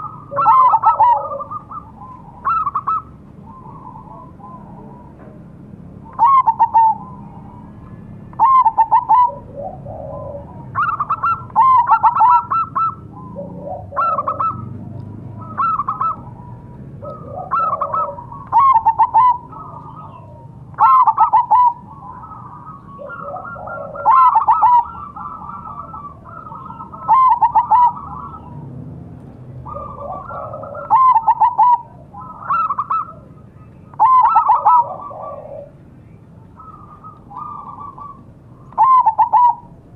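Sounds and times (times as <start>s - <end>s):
dove cooing staccato notes: 0.0s - 28.8s, 29.5s - 35.9s, 36.5s - 39.9s.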